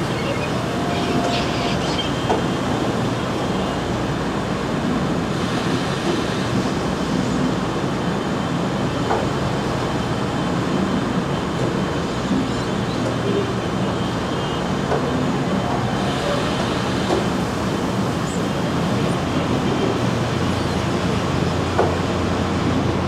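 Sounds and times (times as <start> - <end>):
conveyor machinery running: 0.0 - 23.0.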